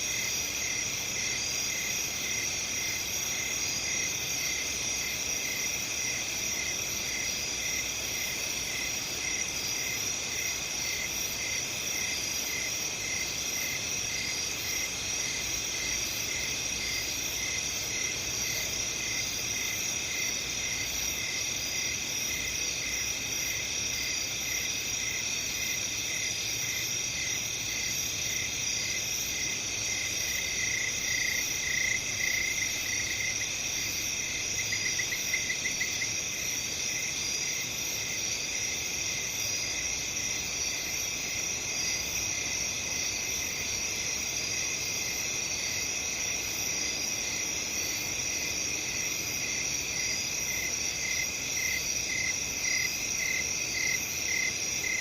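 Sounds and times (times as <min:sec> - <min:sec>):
crickets trilling: 0:00.0 - 0:55.0
repeating cricket chirp: 0:08.8 - 0:55.0.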